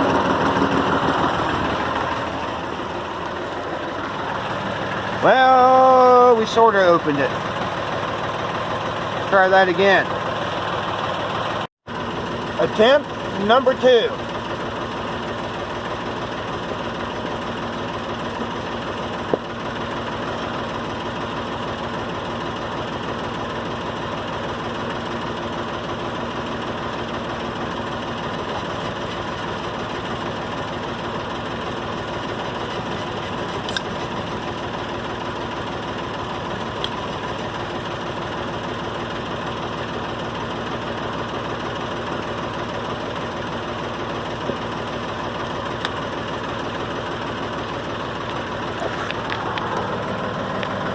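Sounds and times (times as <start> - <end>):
tractor diesel engine idling: 0.0 - 50.9.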